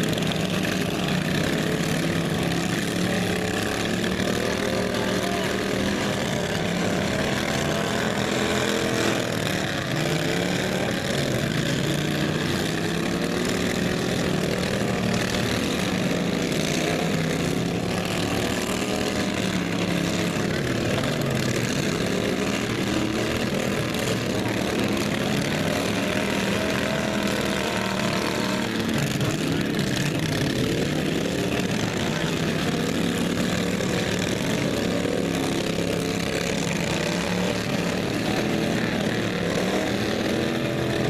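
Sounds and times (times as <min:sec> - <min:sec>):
racing lawn mower engines revving: 0:00.0 - 0:41.0.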